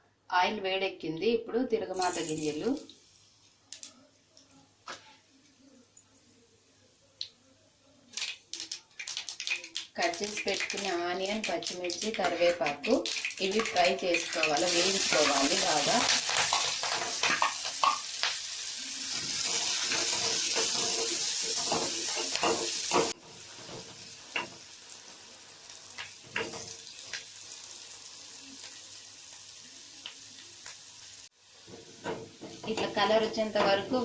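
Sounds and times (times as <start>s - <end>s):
food sizzling in hot oil: 1.9s - 3.9s, 8.1s - 34.0s.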